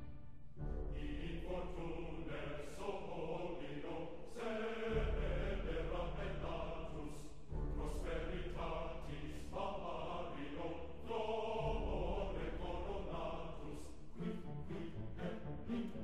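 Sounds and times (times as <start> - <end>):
group chanting long notes: 0.9 - 16.0.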